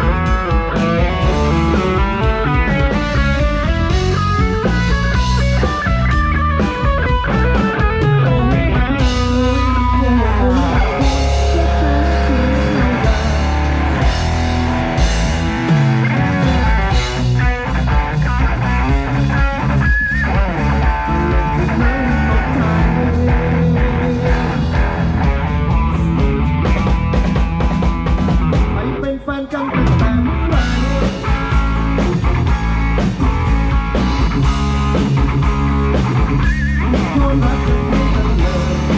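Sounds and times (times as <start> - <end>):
bass guitar: 0.0 - 38.9
drum kit: 0.0 - 38.9
electric guitar: 0.0 - 38.9
rock band playing: 0.0 - 38.9.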